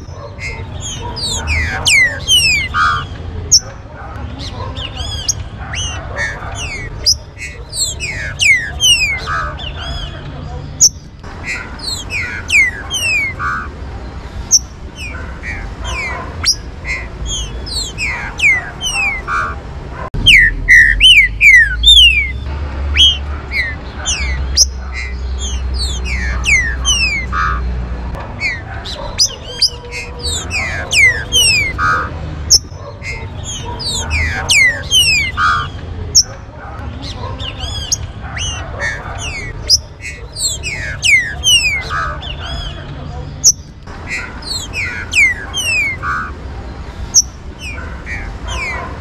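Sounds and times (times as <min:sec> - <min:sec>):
bird whistling song: 0:00.0 - 0:03.8, 0:04.4 - 0:10.2, 0:10.8 - 0:19.6, 0:20.2 - 0:27.7, 0:28.4 - 0:36.4, 0:37.0 - 0:42.8, 0:43.4 - 0:46.4, 0:47.0 - 0:48.9.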